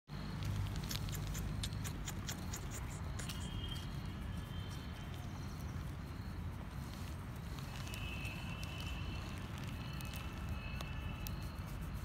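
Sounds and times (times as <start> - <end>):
gravel crackling and clicking: 0.2 - 4.0, 4.7 - 11.6.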